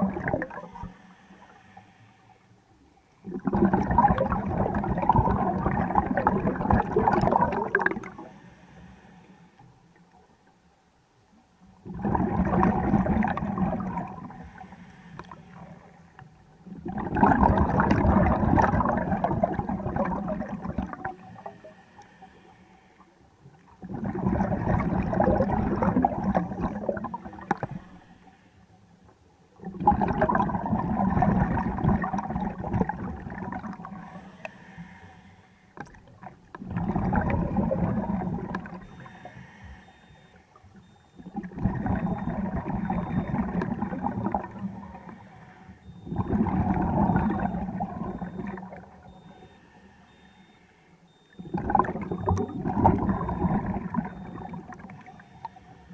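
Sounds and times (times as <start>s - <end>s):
scuba regulator bubbling exhaust: 0.0s - 1.8s, 3.2s - 9.1s, 11.8s - 22.7s, 23.7s - 28.5s, 29.5s - 55.9s.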